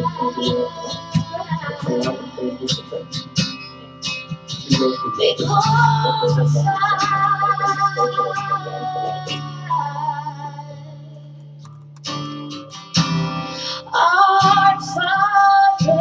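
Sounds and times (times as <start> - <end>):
acoustic guitar strummed and plucked: 0.0 - 16.0
held notes: 0.0 - 16.0.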